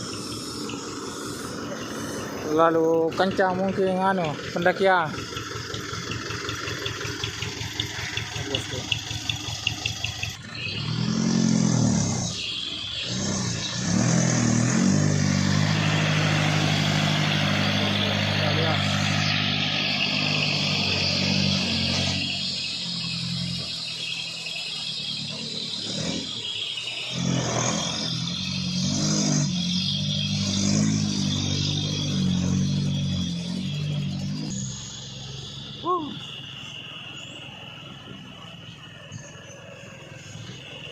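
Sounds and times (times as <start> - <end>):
truck diesel engine revving: 0.0 - 40.9.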